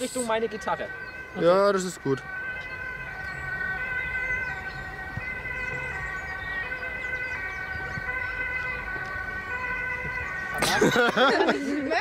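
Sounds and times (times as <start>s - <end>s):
two-tone siren: 0.0s - 12.0s.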